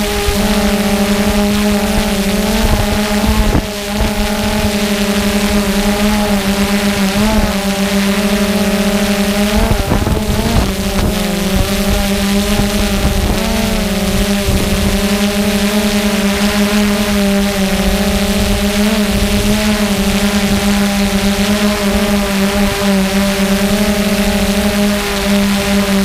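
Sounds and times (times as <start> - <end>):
drone propellers humming: 0.0 - 26.0.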